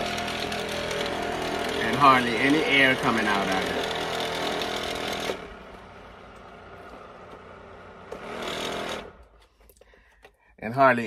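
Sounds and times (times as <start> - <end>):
electric fan running: 0.0 - 9.4.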